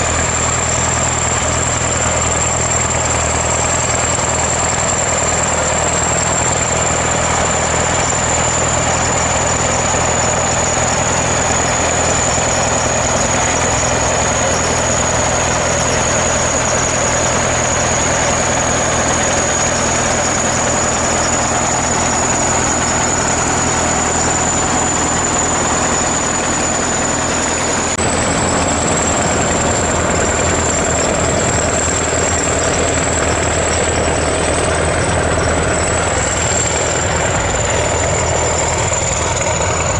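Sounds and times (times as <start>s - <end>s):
bulldozer diesel engine idling: 0.0s - 39.9s.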